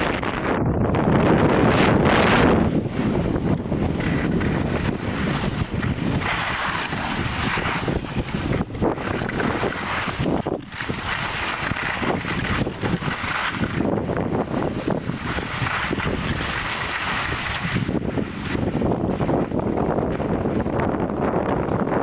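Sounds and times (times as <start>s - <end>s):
skis scraping on snow: 0.0s - 22.0s
wind rushing over microphone: 0.0s - 22.0s.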